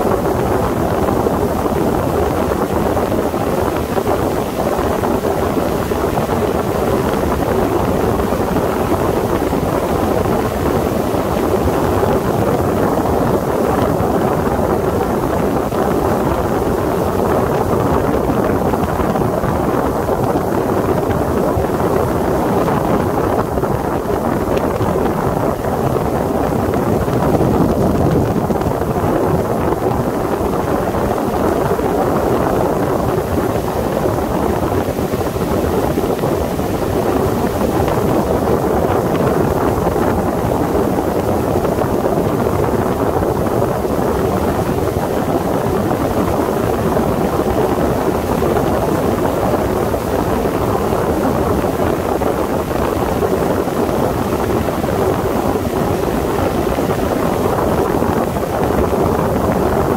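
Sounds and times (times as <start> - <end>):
wind on microphone: 0.0 - 59.9.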